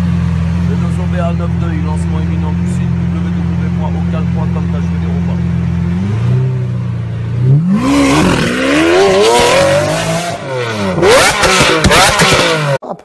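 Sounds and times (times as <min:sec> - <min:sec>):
sports car engine revving: 0:00.0 - 0:12.8.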